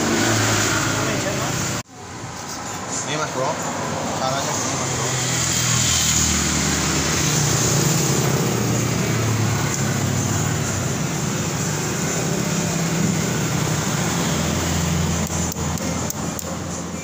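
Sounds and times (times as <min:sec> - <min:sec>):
engine humming drone: 0:00.0 - 0:01.9, 0:03.9 - 0:17.0.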